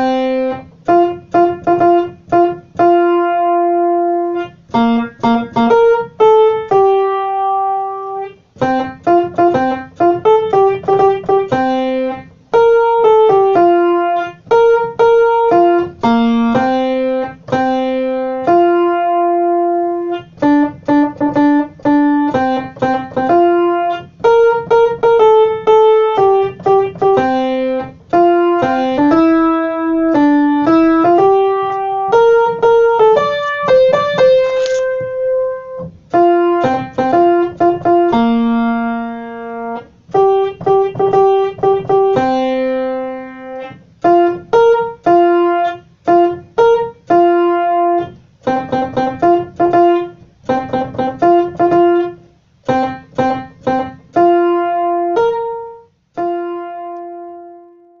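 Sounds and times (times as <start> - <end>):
piano playing bass line notes: 0.0 - 58.0.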